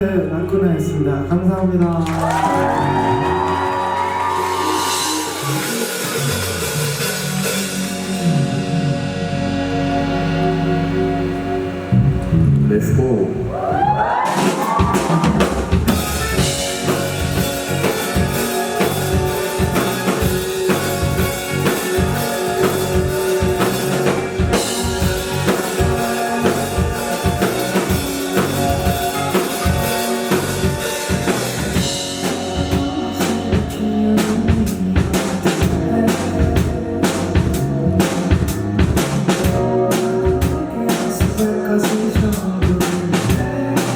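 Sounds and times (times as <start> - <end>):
live rock band instrumental: 2.0 - 13.2, 14.0 - 43.9
drum kit beat: 2.2 - 9.2, 13.7 - 43.9.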